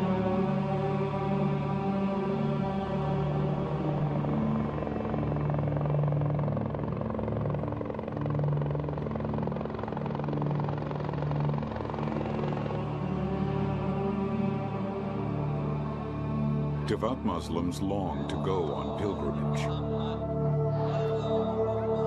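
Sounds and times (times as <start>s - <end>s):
background music low notes: 0.0s - 22.0s
helicopter rotors drone: 0.0s - 22.0s.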